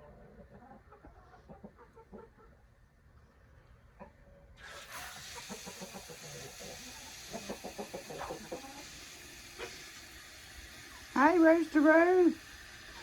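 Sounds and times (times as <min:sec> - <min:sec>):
chickens clucking: 0:00.0 - 0:11.3, 0:12.8 - 0:13.0.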